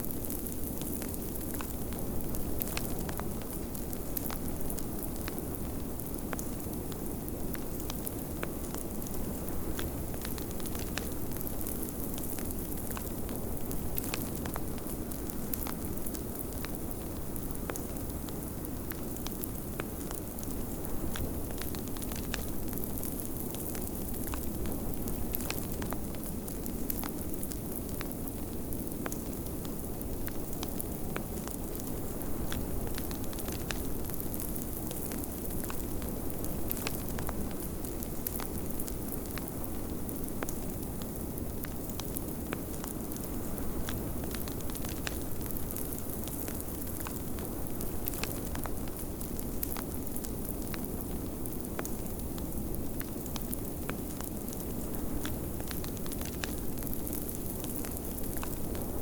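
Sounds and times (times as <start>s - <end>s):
fireplace crackling and popping: 0.1s - 59.0s.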